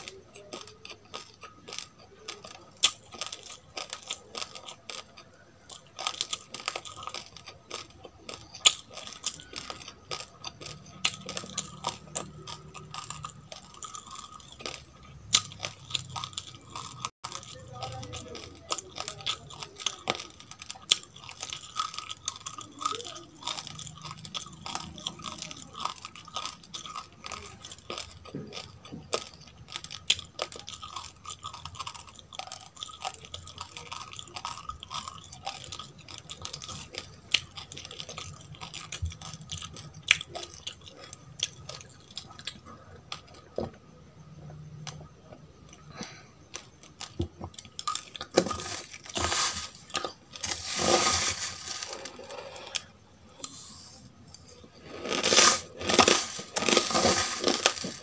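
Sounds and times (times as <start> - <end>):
crunchy chewing of rice grains: 0.0 - 58.0.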